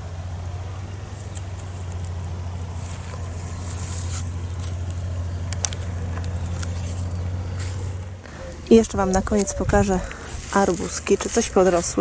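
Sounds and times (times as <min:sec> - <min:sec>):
leaves rustling: 0:00.0 - 0:12.0
low hum: 0:00.0 - 0:12.0.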